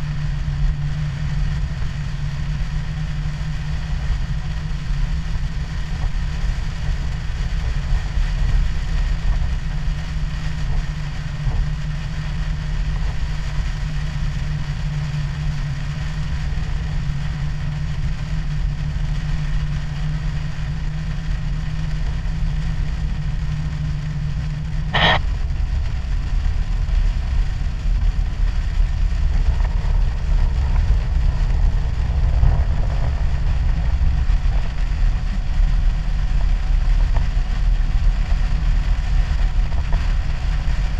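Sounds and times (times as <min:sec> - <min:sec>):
engine and tyre rumble: 0:00.0 - 0:40.9
low hum: 0:00.0 - 0:40.9.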